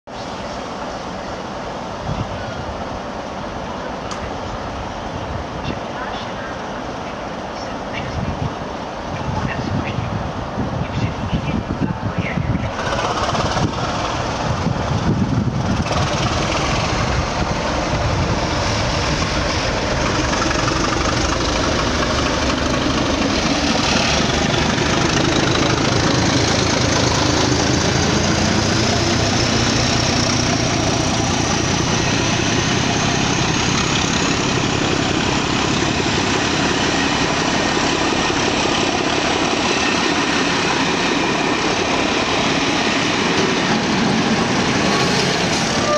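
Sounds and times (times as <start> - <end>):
diesel locomotive engine running hard: 0.1 - 45.9
train coaches rolling by: 0.1 - 45.9.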